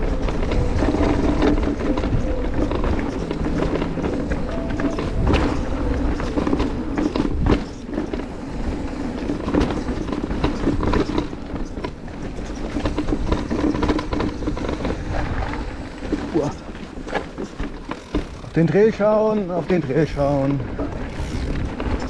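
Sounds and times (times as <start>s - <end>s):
mountain bike rattling and knocking: 0.0s - 22.0s.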